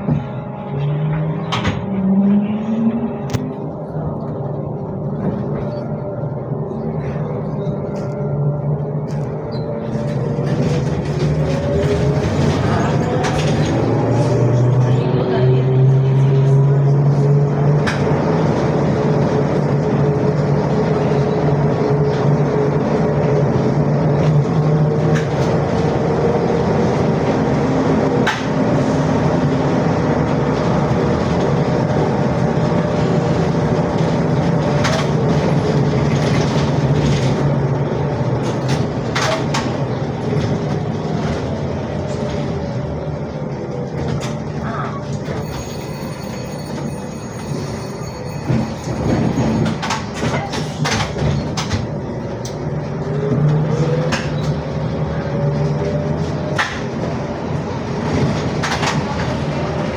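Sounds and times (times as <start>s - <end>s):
road noise: 0.0s - 59.9s
trolleybus motor hum and whine: 0.0s - 59.9s.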